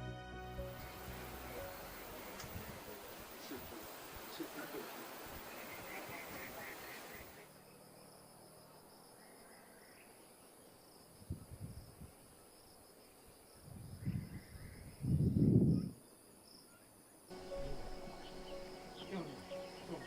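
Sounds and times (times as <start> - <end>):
insects chirping: 0.6 - 20.0.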